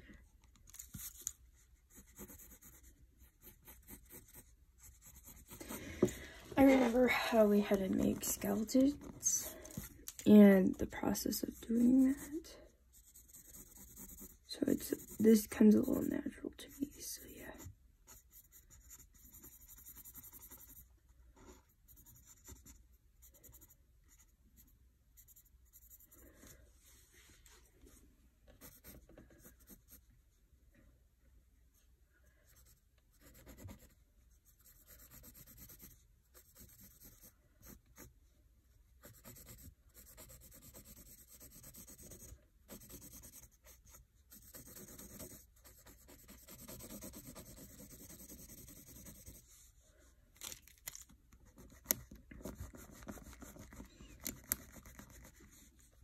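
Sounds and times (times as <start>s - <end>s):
pencil scratching on paper: 0.7s - 10.4s, 11.0s - 26.6s, 28.6s - 30.1s, 32.5s - 38.1s, 39.0s - 49.8s, 51.4s - 56.0s.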